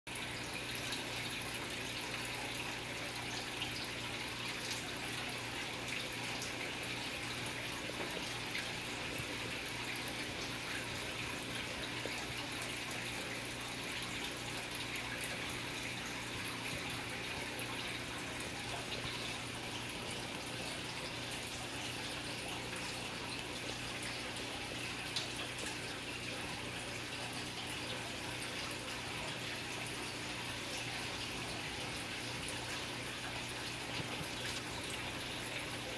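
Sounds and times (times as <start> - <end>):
running water trickling: 0.1 - 35.9.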